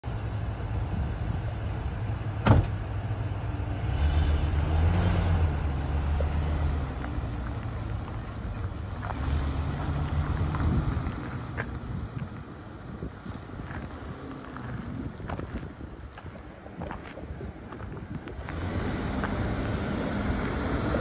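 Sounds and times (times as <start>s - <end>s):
truck engine driving off: 0.0s - 16.1s, 16.8s - 21.0s.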